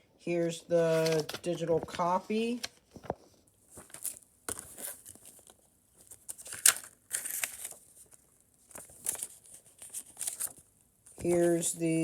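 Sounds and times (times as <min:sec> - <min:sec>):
paper rustling and crinkling: 0:00.8 - 0:12.0.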